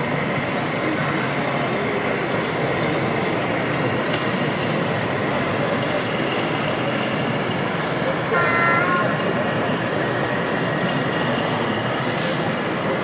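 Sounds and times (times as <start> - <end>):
hubbub of crowded hall: 0.0 - 13.0
model train running: 0.0 - 13.0.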